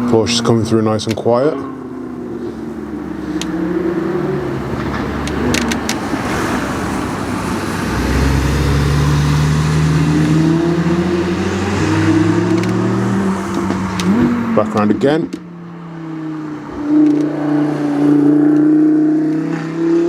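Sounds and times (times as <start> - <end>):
sports car engine running: 0.0 - 20.0.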